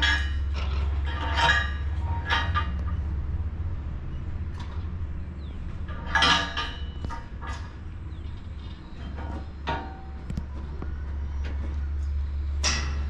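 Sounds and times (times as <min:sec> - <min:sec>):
truck engine low drone: 0:00.0 - 0:13.0.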